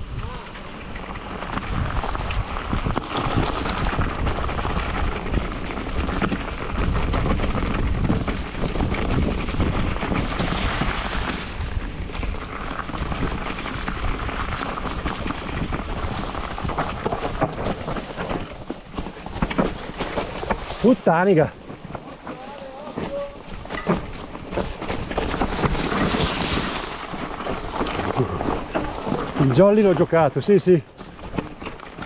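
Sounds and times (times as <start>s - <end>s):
bike clattering over bumps: 0.0s - 32.0s
tyres rushing through leaves: 0.0s - 32.0s
wind buffeting microphone: 0.0s - 32.0s.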